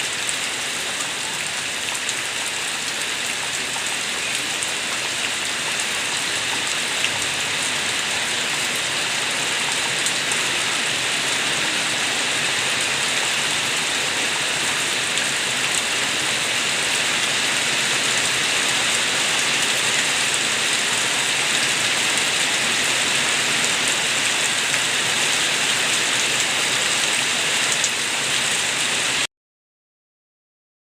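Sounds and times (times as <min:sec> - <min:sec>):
rainwater gurgling: 0:00.0 - 0:29.3
steady rain: 0:00.0 - 0:29.3.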